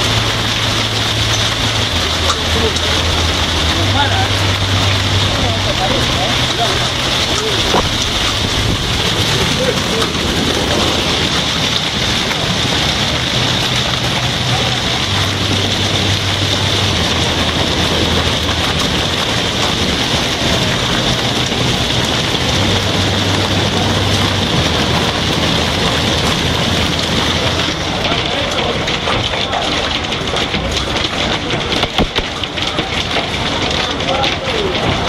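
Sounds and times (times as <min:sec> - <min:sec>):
hailstones striking surfaces and glass: 0:00.0 - 0:35.0.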